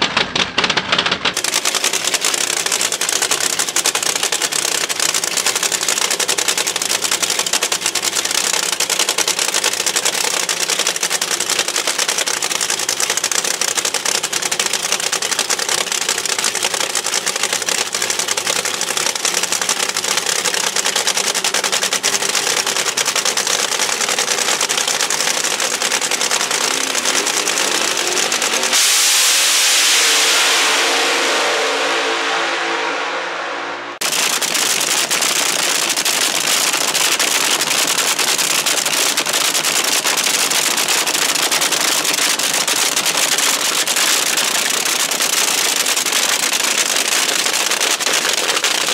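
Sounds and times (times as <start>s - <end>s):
drag car engine crackling: 0.0s - 48.9s.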